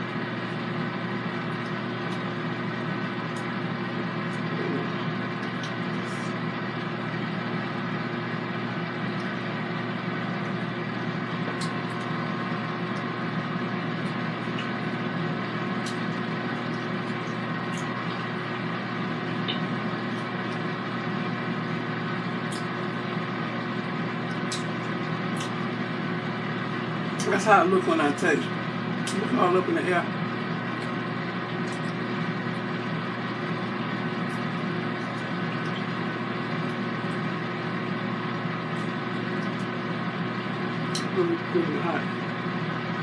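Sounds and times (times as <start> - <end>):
air fryer fan whirring: 0.0 - 43.0.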